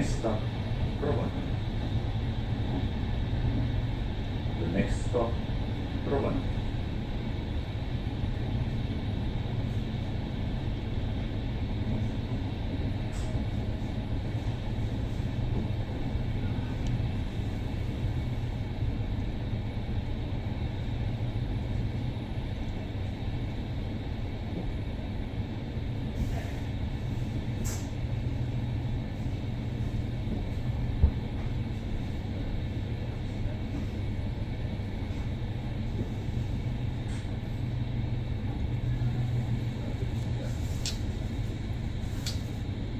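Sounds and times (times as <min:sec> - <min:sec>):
train rumbling inside carriage: 0:00.0 - 0:42.9.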